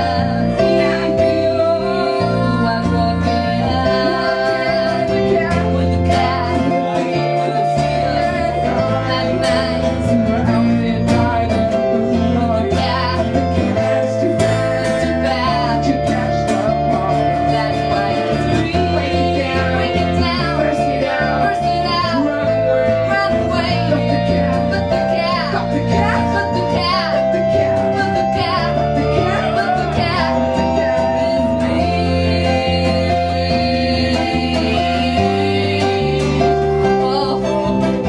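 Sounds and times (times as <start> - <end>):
rock band playing: 0.0 - 38.0
woman singing: 0.0 - 38.0.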